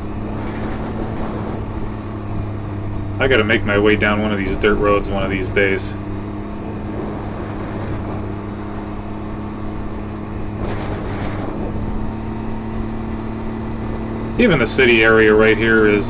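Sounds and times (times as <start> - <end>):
road and wind noise: 0.0 - 16.0
rush of noise: 0.0 - 16.0
vehicle engine running: 0.0 - 16.0.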